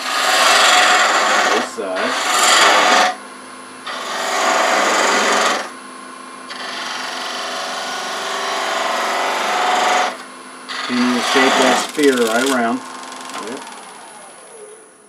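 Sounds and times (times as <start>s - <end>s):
lathe tool scraping wood: 0.0s - 3.2s, 3.8s - 5.8s, 6.5s - 14.1s
lathe motor hum: 0.0s - 5.8s, 6.4s - 14.9s.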